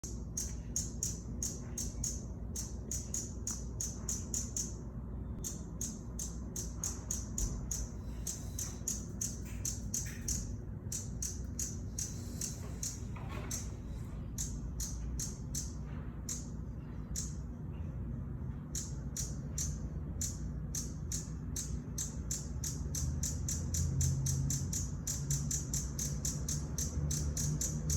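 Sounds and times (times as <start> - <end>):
hummingbird chip calls: 0.0 - 17.5, 18.7 - 27.9
steady low hum: 0.0 - 27.9.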